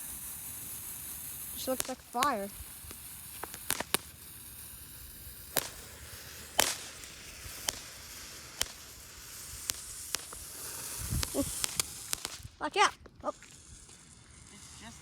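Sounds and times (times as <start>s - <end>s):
firework fountain hissing: 0.0s - 15.0s
firework pops and cracks: 0.0s - 15.0s.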